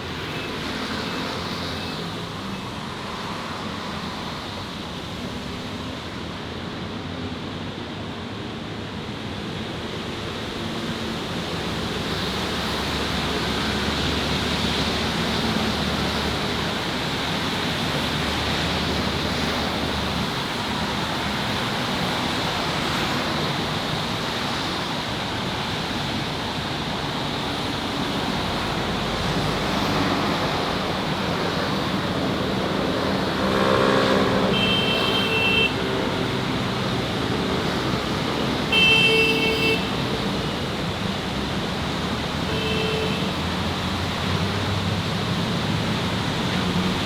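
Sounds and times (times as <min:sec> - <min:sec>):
city traffic: 0:00.0 - 0:47.0.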